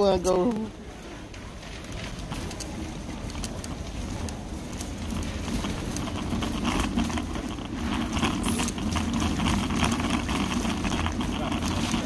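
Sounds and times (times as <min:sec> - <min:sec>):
light clatter: 0:00.5 - 0:12.0.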